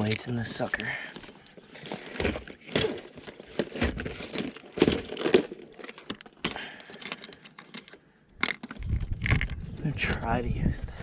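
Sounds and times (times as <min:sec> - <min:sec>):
fishing tackle rustling and clicking: 0:00.0 - 0:09.7.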